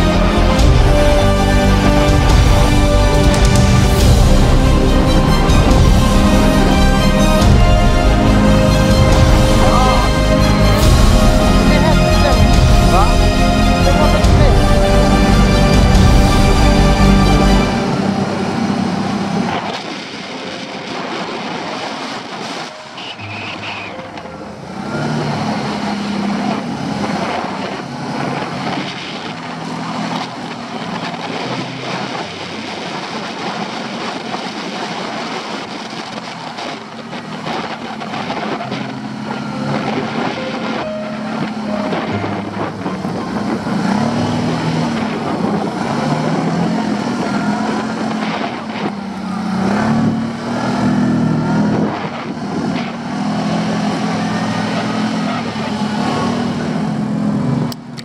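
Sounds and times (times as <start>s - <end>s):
vehicle engine revving: 0.0s - 20.1s, 22.6s - 58.0s.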